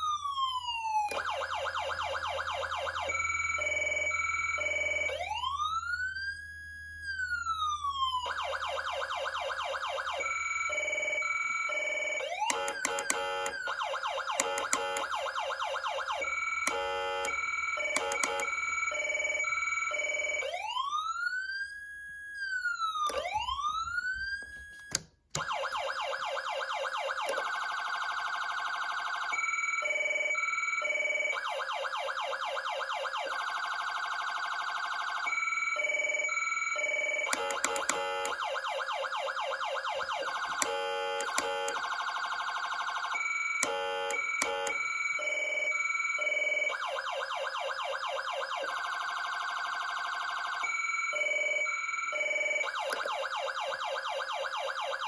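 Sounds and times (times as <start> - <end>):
electronic siren cycling tones: 0.0 - 55.0.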